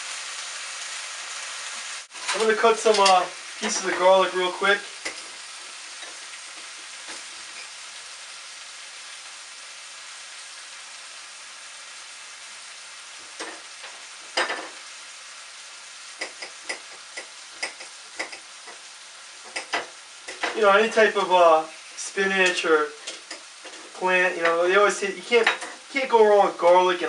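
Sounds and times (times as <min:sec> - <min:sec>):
greens sizzling in frying pan: 0:00.0 - 0:27.0.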